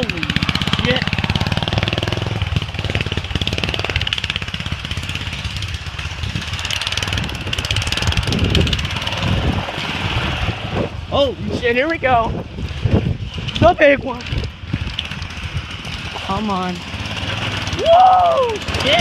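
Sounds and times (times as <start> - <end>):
lawnmower engine running hard: 0.0 - 19.0.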